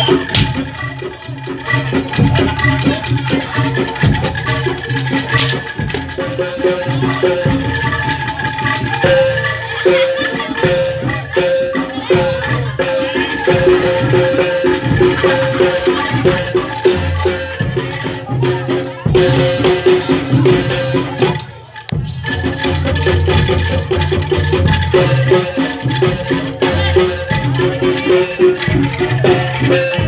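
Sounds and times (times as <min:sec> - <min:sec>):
gamelan-style percussion: 0:00.0 - 0:30.0
low drum beats: 0:00.0 - 0:30.0.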